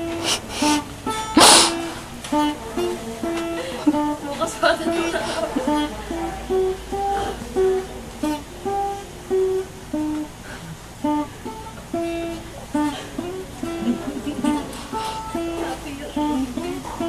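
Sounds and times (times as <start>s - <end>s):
acoustic guitars picking slow melody: 0.0s - 17.0s.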